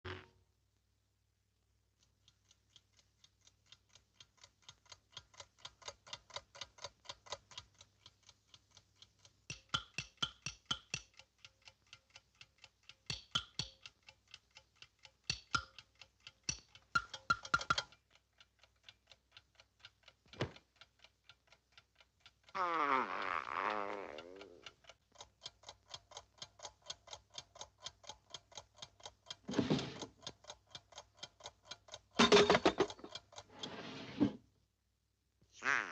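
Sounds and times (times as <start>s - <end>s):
rapid even ticking: 1.9s - 22.6s, 23.4s - 29.5s, 30.1s - 32.2s
clusters of clicks: 2.0s - 22.6s, 24.4s - 33.6s.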